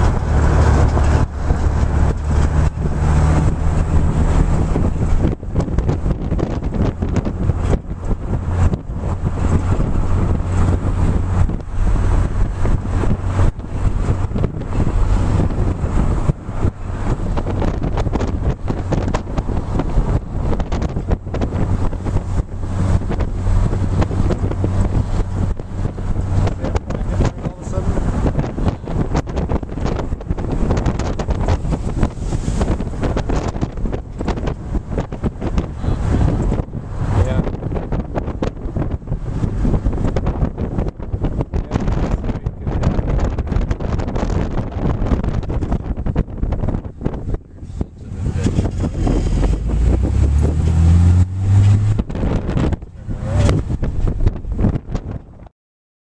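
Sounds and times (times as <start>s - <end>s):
wind buffeting microphone: 0.0s - 55.5s.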